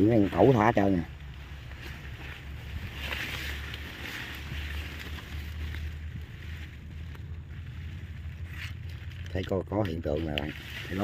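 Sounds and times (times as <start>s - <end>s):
leaves and stems rustling: 0.0s - 11.0s
wind rumble: 0.0s - 11.0s.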